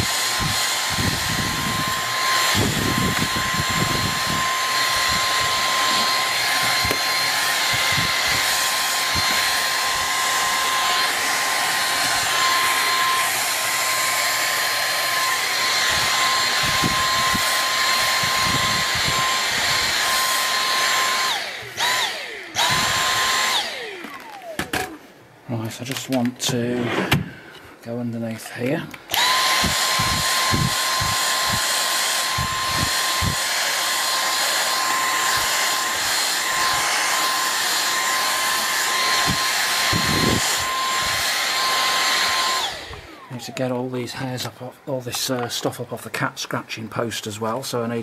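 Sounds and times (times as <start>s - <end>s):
cordless vacuum motor whine: 0.0s - 25.1s, 29.1s - 43.9s.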